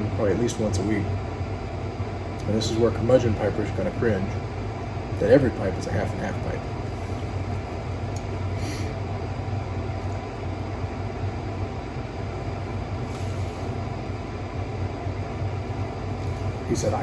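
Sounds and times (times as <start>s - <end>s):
electric fireplace hiss and hum: 0.0s - 17.0s.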